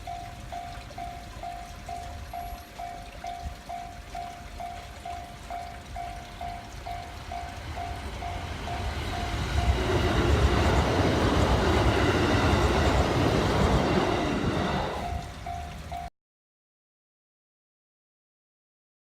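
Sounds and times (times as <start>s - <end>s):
electric train passing: 0.0s - 16.1s.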